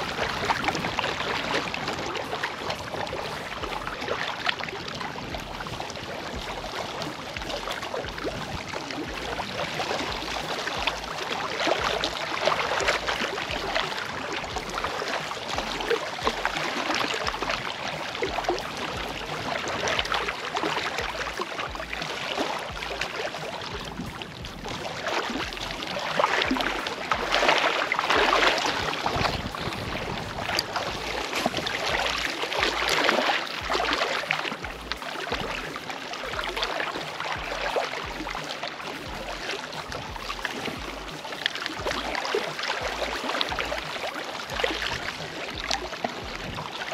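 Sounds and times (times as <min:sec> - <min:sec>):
waves lapping on rocks: 0:00.0 - 0:46.9.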